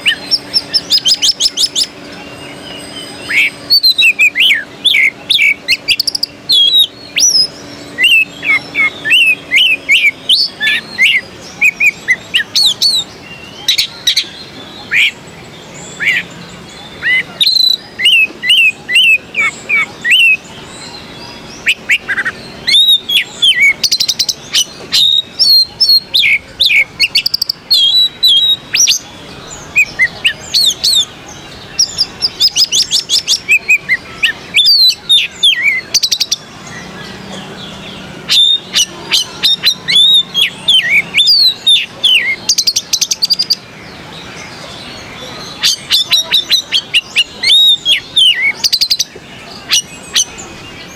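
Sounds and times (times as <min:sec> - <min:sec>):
songbird singing with trills: 0:00.0 - 0:50.9.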